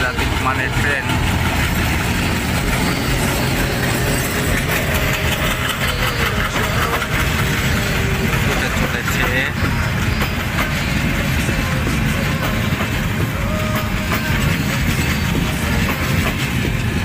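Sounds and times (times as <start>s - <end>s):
diesel locomotive passing: 0.0s - 17.0s
train wheels on rails: 0.0s - 17.0s.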